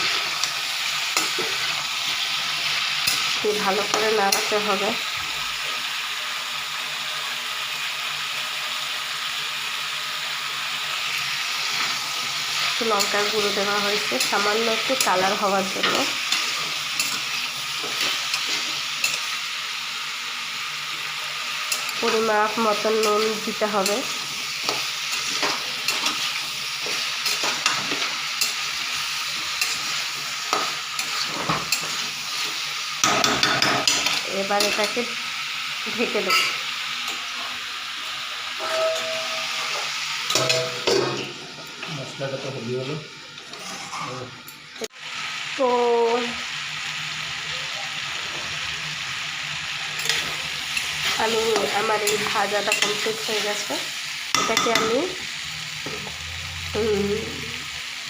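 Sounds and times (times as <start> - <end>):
vegetables sizzling in hot oil: 0.0 - 58.0.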